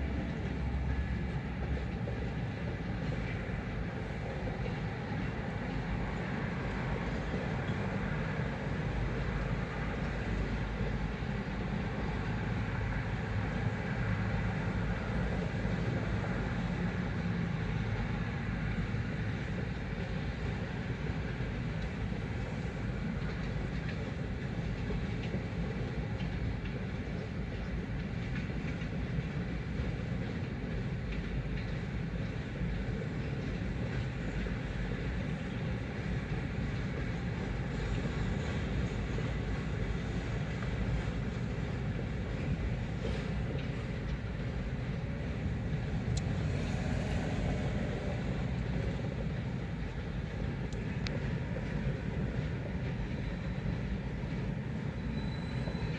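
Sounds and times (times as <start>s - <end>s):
freight train rumbling over rails: 0.0s - 55.9s.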